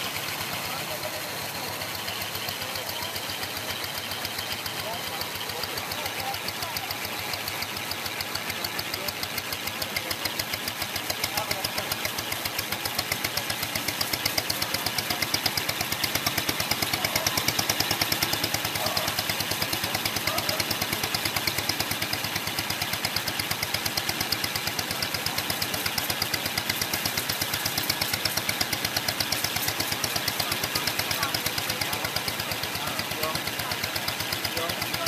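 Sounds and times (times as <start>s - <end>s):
motorboat engine running: 0.0s - 35.0s.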